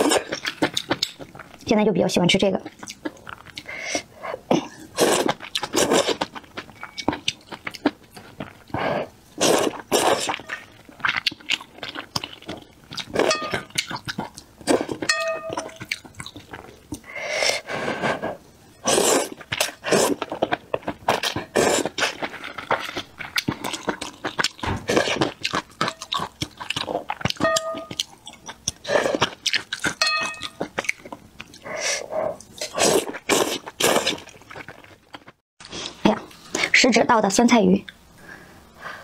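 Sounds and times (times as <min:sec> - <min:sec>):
slurping and chewing noodles: 0:00.0 - 0:01.6, 0:02.7 - 0:36.8.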